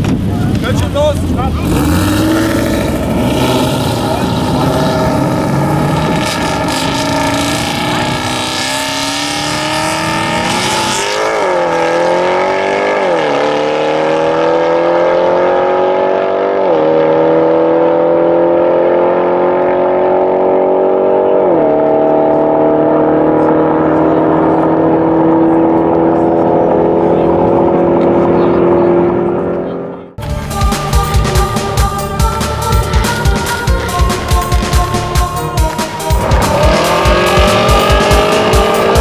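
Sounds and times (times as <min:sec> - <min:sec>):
car accelerating through gears: 0:00.6 - 0:30.2, 0:35.8 - 0:39.0.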